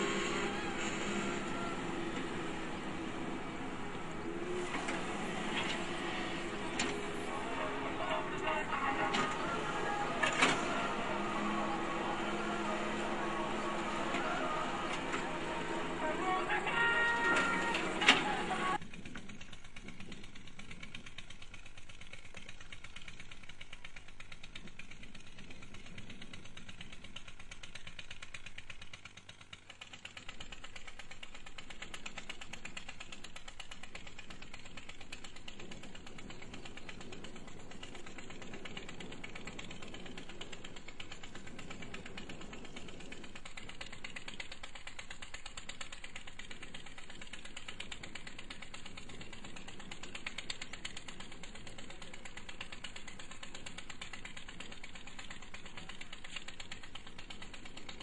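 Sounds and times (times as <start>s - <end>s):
small motor running with ticking rattle: 0.0s - 58.0s.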